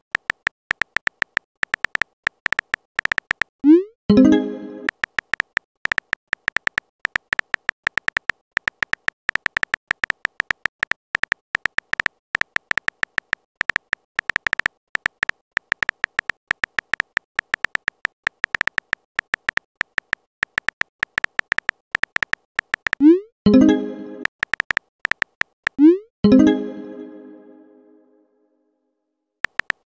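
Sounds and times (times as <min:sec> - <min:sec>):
phone keyboard typing clicks: 0:00.1 - 0:26.4, 0:29.4 - 0:29.9.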